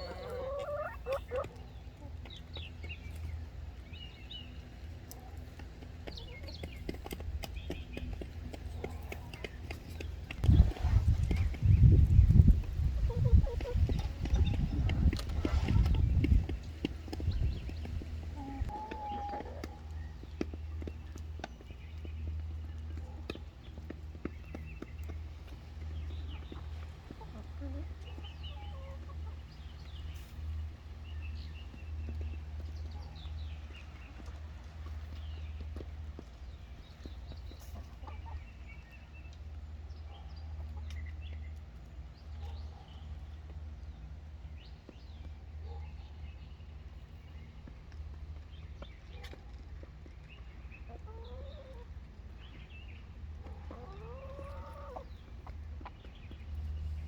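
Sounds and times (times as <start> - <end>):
chickens calling: 0.0 - 44.0, 48.4 - 57.0.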